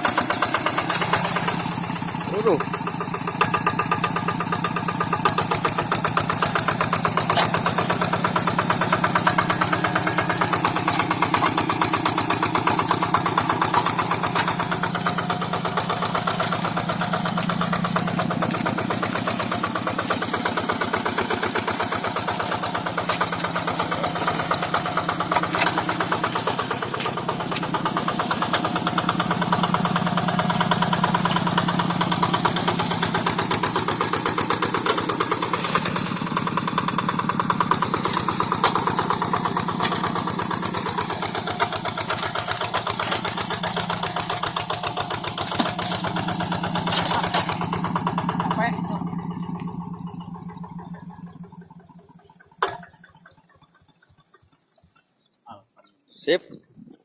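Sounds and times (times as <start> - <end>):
tractor engine chugging: 0.0 - 57.0.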